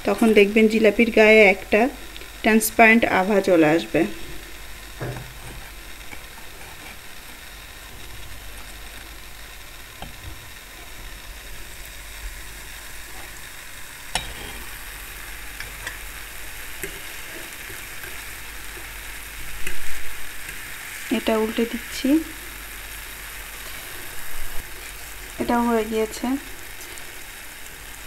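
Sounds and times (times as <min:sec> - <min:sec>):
batter sizzling in hot oil: 0:00.0 - 0:28.0.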